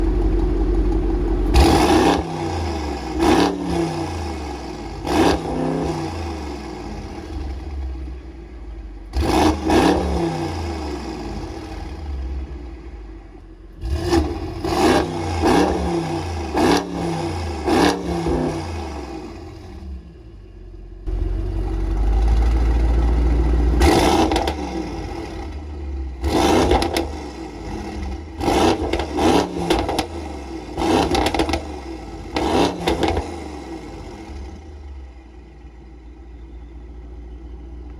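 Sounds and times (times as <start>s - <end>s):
car exhaust idling and revving: 0.0s - 37.9s.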